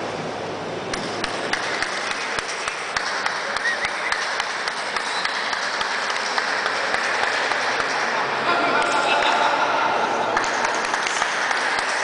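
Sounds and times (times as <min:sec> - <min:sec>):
background hubbub: 0:00.0 - 0:12.0
spectators clapping in rhythm: 0:00.9 - 0:09.5, 0:10.2 - 0:12.0.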